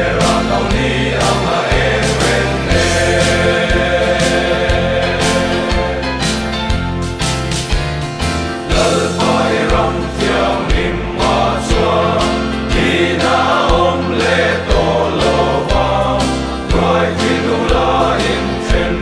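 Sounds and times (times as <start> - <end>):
men's choir singing: 0.0 - 6.8, 8.7 - 19.0
bass line: 0.0 - 19.0
drums keeping a steady beat: 0.0 - 19.0.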